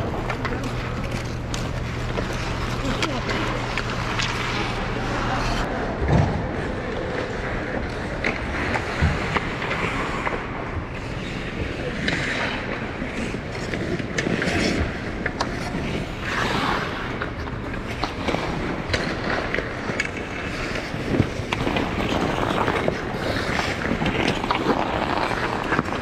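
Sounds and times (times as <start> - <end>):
ice skate blades scraping ice: 0.0 - 5.7, 6.9 - 26.0.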